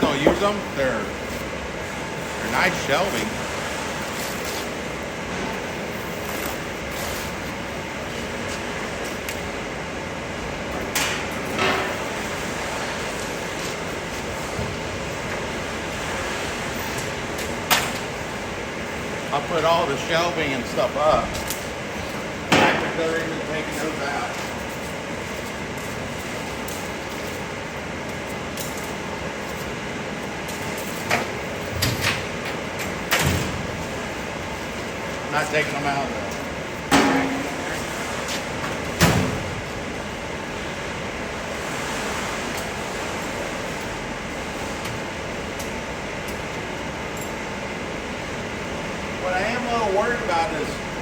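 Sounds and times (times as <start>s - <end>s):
machinery humming: 0.0s - 51.0s.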